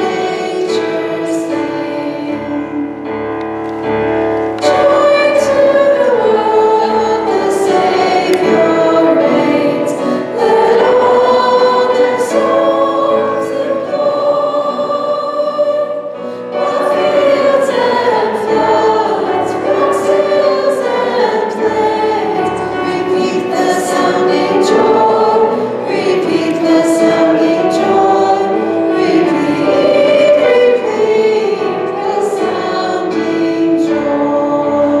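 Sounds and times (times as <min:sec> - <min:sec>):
women singing into microphones: 0:04.6 - 0:16.0, 0:16.6 - 0:35.0.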